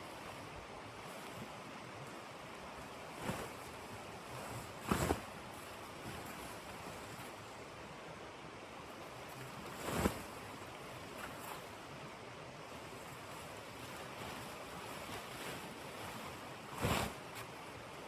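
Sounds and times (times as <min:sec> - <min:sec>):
blizzard wind with sharp bursts: 0:00.0 - 0:18.0.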